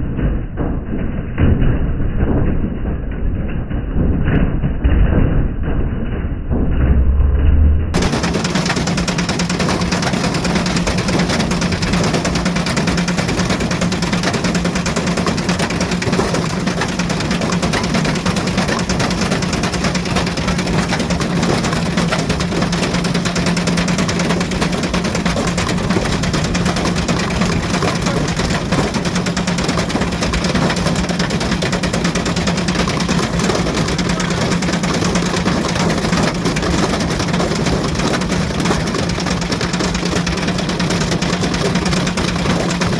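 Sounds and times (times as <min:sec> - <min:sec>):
washing machine motor hum: 0:07.8 - 0:42.9.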